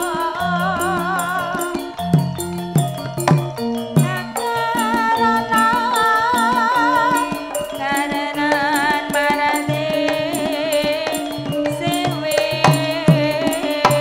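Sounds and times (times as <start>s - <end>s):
hand drum strokes: 0.0s - 14.0s
keyboard: 0.0s - 14.0s
metallophone strikes: 0.0s - 14.0s
wavering lead melody: 0.0s - 14.0s.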